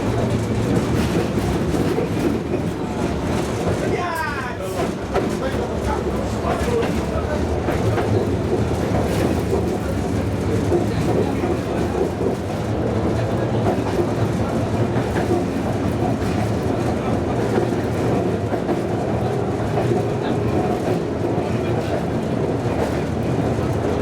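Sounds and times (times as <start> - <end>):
tram wheels rumbling on rails: 0.0 - 24.0.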